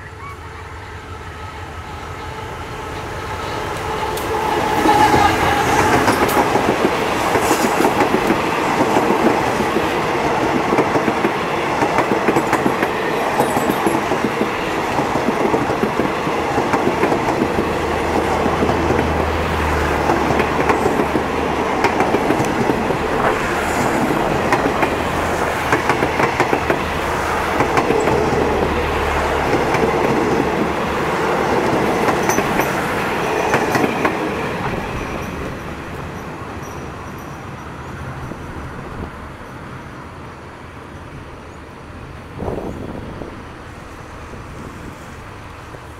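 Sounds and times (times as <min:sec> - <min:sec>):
train wheels rumbling: 0:00.2 - 0:40.1
clickety-clack over rail joints: 0:02.1 - 0:39.2.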